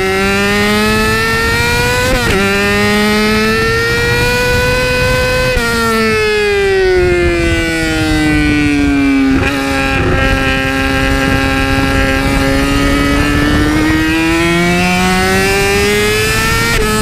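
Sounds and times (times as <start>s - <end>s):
gear change: 0.0s - 17.0s
sport bike engine at high revs: 0.0s - 17.0s.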